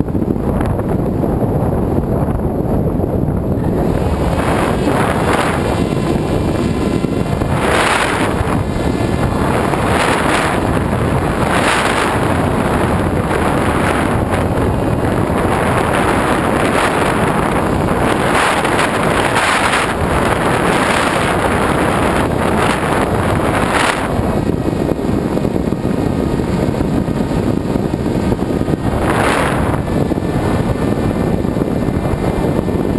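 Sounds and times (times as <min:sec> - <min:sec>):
wind rushing over microphone: 0:00.0 - 0:32.9.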